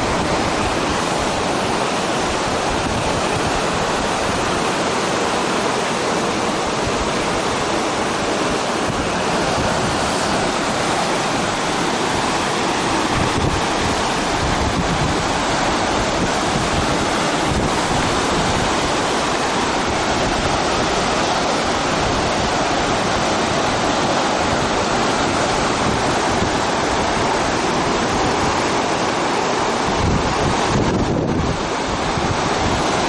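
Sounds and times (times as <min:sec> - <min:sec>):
whitewater rapids rushing: 0:00.0 - 0:33.0.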